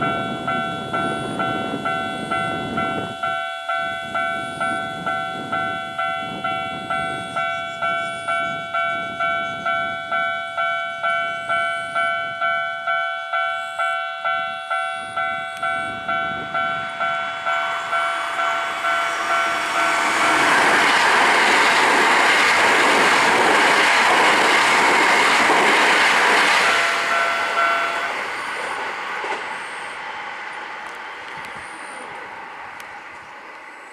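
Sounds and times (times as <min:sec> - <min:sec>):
level-crossing warning bell: 0:00.0 - 0:30.1
electric train passing: 0:00.0 - 0:33.9.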